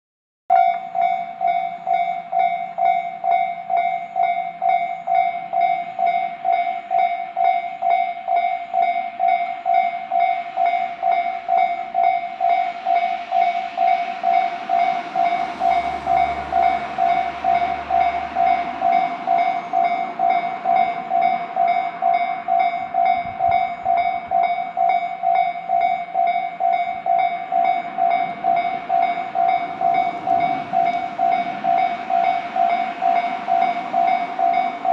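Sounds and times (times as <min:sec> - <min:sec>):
electric train passing: 0:00.5 - 0:34.9
level crossing warning bell: 0:00.5 - 0:34.9.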